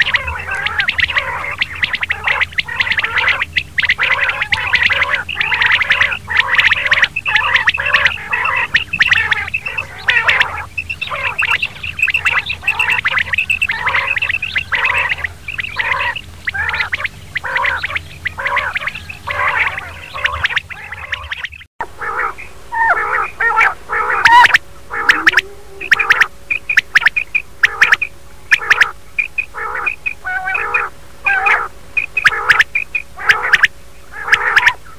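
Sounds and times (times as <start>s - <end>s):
recorded quail calls: 0.0s - 34.9s
steady low hum: 0.0s - 34.9s.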